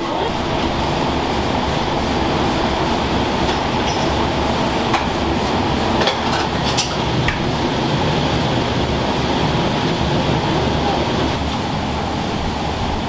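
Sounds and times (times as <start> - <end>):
kitchen roar: 0.0 - 13.0.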